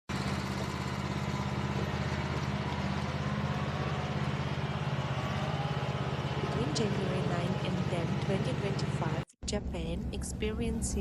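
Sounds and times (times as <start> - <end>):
engine idling: 0.1 - 11.0.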